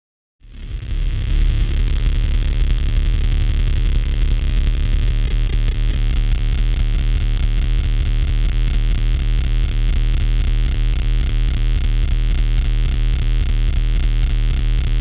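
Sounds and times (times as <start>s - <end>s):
buzzy electronic drone: 0.4s - 15.0s.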